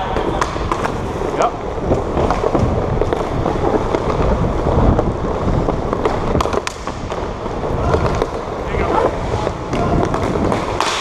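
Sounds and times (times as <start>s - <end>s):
hockey stick hitting puck: 0.0s - 1.0s, 1.9s - 4.3s, 5.6s - 11.0s
wind rumble: 0.0s - 10.9s
skates scraping on ice: 0.0s - 11.0s.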